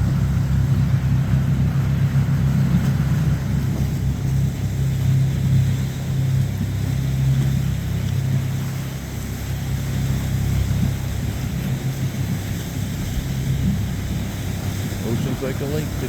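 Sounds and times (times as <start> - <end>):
motorboat engine droning: 0.0 - 16.0.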